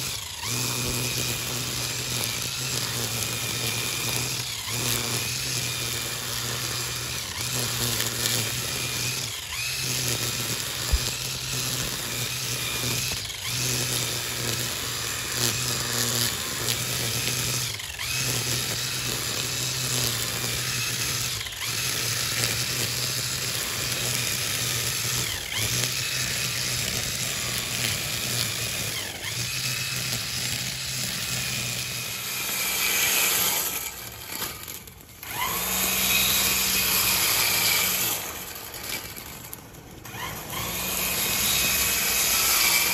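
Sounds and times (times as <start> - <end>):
electric brush cutter whining: 0.0 - 42.9.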